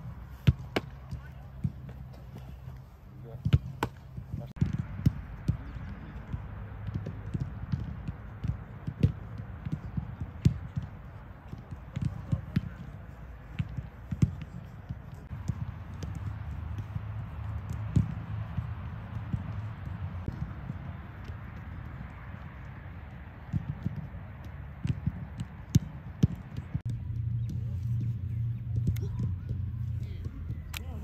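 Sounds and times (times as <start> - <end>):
footballs being kicked: 0.0 - 31.0
steady low rumble: 0.0 - 31.0.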